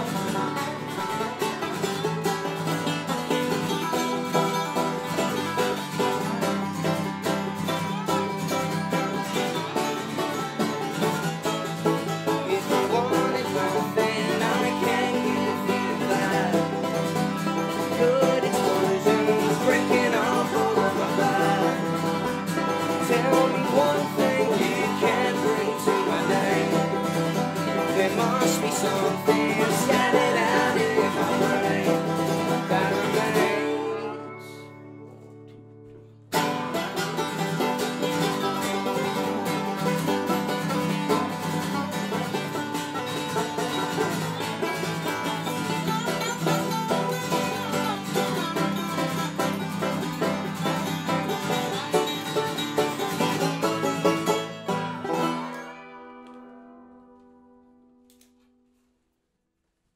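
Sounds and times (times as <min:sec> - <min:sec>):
banjo: 0:00.0 - 0:57.5
strummed acoustic guitar: 0:00.0 - 0:57.9
slide resonator guitar: 0:00.0 - 0:58.3.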